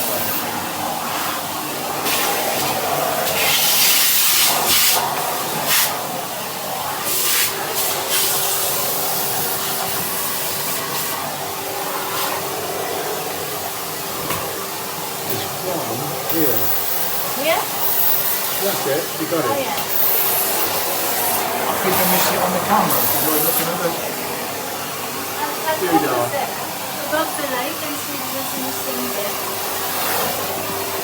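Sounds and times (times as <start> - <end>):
vacuum cleaner suction hiss: 0.0 - 31.0.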